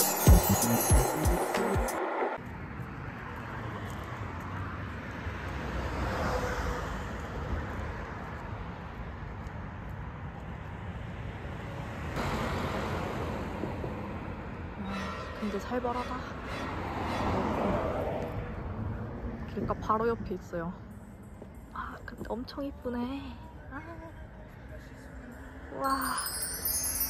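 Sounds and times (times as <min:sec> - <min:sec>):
road traffic rushing: 0:00.0 - 0:21.7
cars passing: 0:00.0 - 0:22.2, 0:23.1 - 0:27.0.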